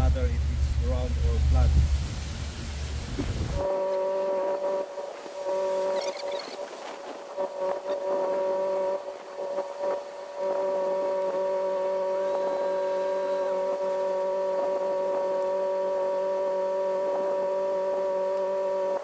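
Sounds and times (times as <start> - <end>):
steady machine hum: 0.0 - 6.0, 7.2 - 19.0.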